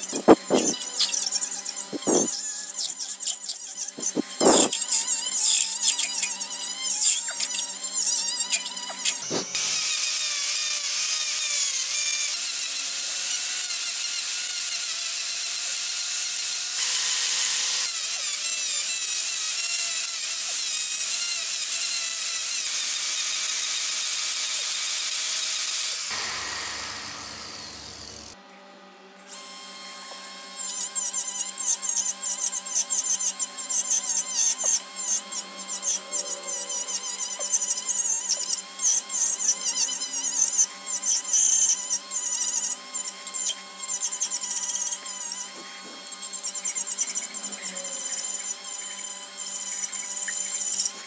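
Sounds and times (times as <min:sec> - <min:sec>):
rotary tool carving wood: 0:00.0 - 0:28.4, 0:29.3 - 0:51.0.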